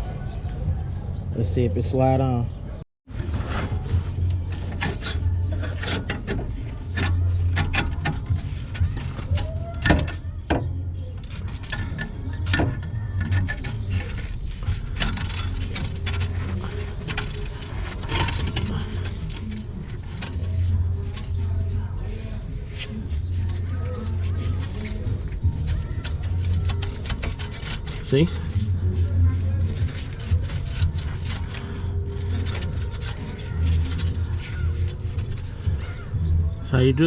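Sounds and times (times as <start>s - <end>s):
metal clanking and scraping: 3.2s - 37.0s.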